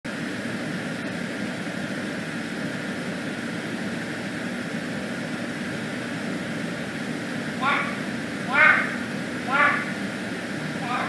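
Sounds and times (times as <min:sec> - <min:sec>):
droning hum with hiss: 0:00.1 - 0:11.0.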